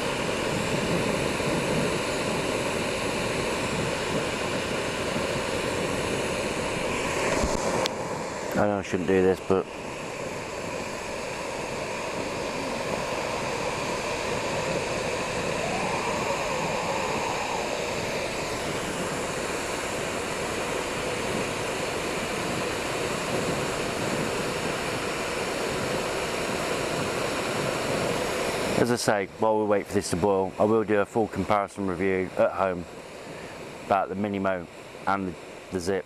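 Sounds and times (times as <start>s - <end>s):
faint rising whine: 0.0s - 29.0s
gas stove burner hissing: 0.0s - 36.0s.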